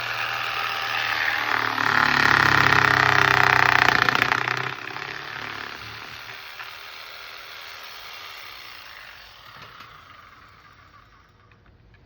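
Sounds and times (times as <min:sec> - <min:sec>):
jigsaw winding down: 0:00.0 - 0:11.6.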